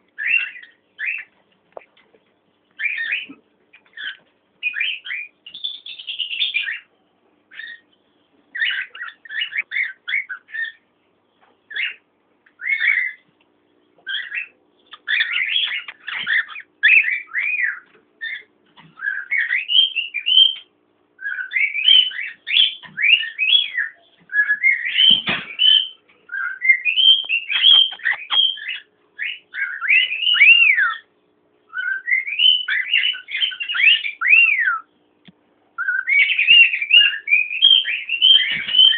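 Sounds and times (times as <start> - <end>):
cockatiels whistling and chirping: 0.2 - 1.4, 2.8 - 6.9, 7.5 - 7.9, 8.5 - 10.8, 11.7 - 12.0, 12.6 - 13.2, 14.0 - 31.1, 31.7 - 34.9, 35.8 - 38.9.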